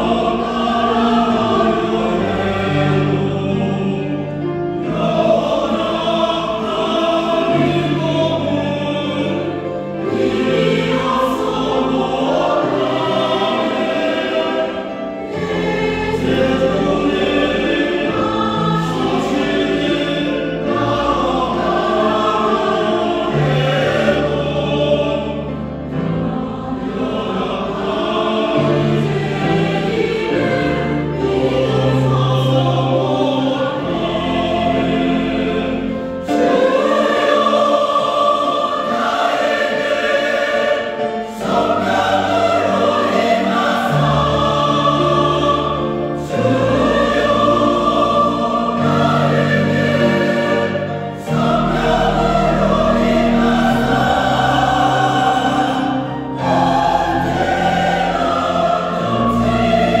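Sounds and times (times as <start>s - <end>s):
group singing worship song: 0.0s - 60.0s
keyboard: 0.0s - 60.0s.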